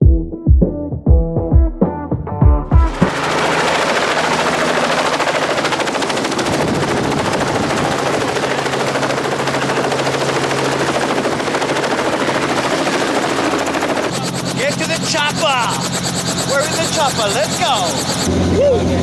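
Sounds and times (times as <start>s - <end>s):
helicopter engine noise: 2.8s - 19.0s
helicopter rotor chop: 2.8s - 19.0s.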